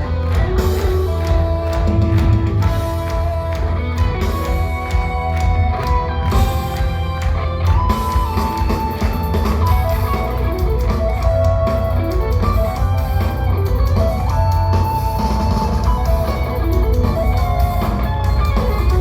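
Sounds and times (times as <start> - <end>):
metal band playing live: 0.0 - 19.0
sliding guitar lead line: 0.0 - 19.0.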